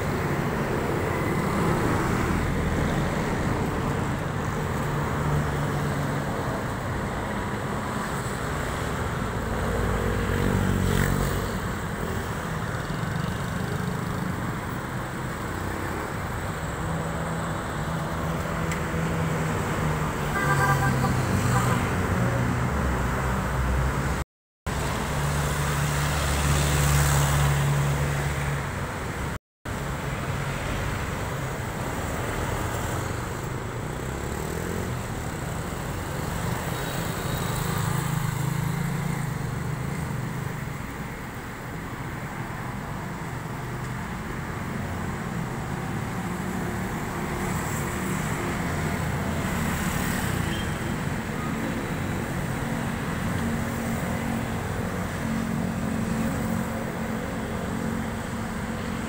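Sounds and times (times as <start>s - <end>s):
street traffic noise: 0.0s - 59.0s.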